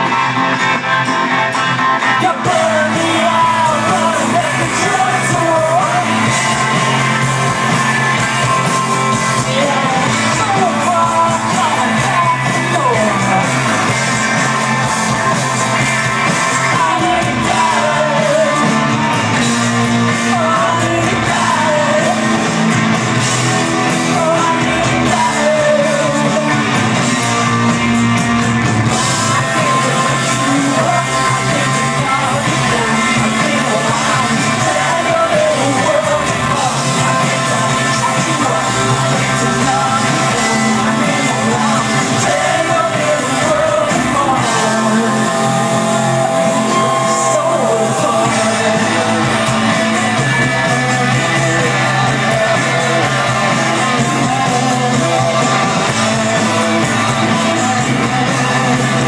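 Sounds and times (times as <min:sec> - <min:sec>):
bass guitar: 0:00.0 - 0:59.0
electric guitar: 0:00.0 - 0:59.0.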